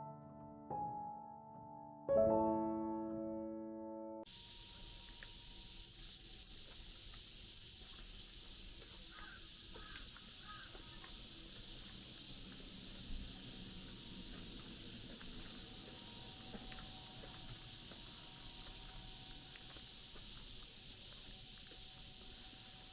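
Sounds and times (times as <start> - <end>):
insects chirping: 4.3 - 22.9.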